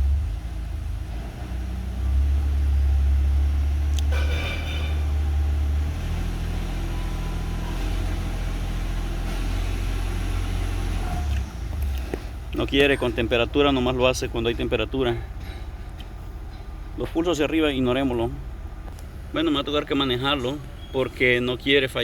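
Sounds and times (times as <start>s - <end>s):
truck engine under load: 0.0s - 22.0s.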